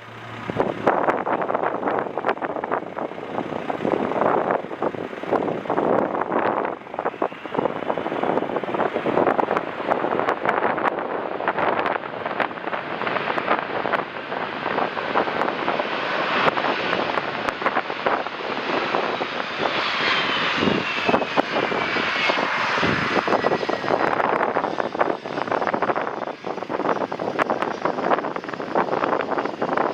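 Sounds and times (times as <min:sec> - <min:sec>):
airliner jet engines whining: 0:00.0 - 0:29.9
wind buffeting microphone: 0:00.3 - 0:29.9.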